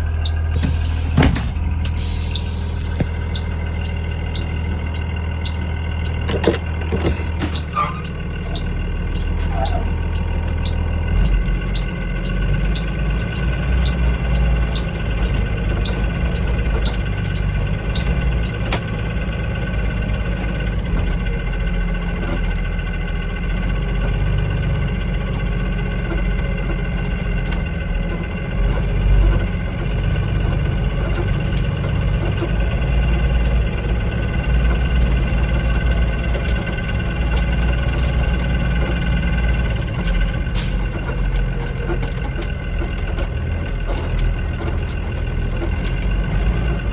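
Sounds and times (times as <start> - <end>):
school bus engine idling: 0.0 - 46.9.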